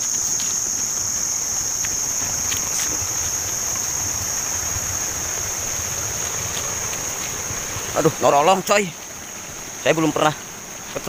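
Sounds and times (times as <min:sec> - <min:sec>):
insect chorus droning: 0:00.0 - 0:11.0.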